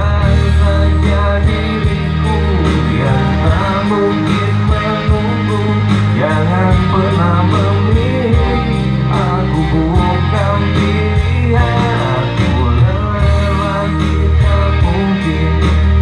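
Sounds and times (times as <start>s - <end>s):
guitar: 0.0s - 16.0s
man singing into a microphone: 0.0s - 16.0s
steady bass: 0.0s - 16.0s.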